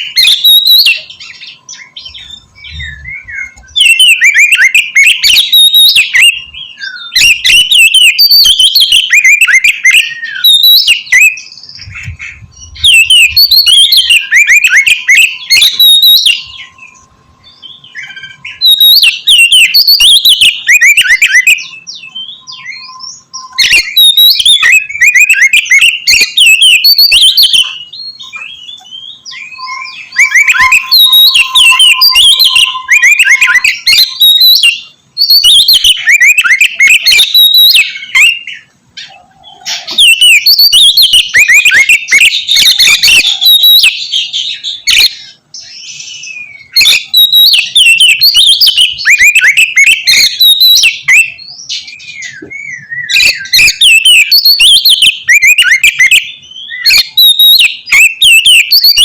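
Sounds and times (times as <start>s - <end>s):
bird singing whistled phrases: 0.0s - 59.0s.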